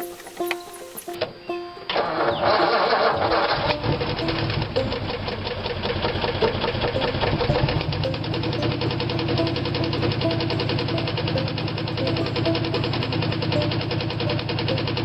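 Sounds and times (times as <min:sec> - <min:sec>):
engine cranking and starting: 0:00.0 - 0:15.0
engine running with fast knock: 0:02.7 - 0:15.0.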